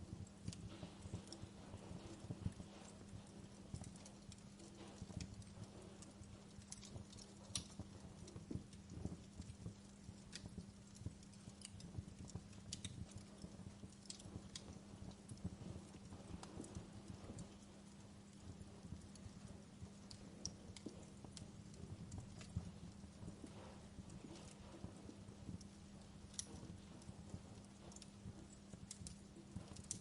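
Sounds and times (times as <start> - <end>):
faint low hum: 0.0 - 30.0
low rumble of flame: 0.0 - 30.0
wood fire crackling: 0.0 - 30.0.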